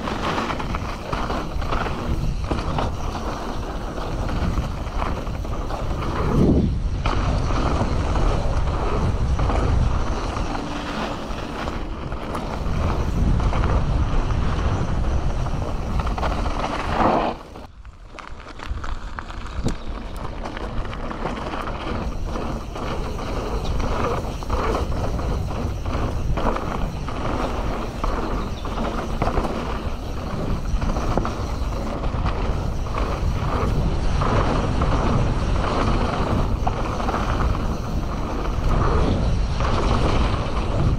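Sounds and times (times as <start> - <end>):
wind on microphone: 0.0 - 17.7, 18.6 - 40.9
bike rattling: 0.0 - 40.9
bike tyres rolling on dirt: 0.0 - 40.9.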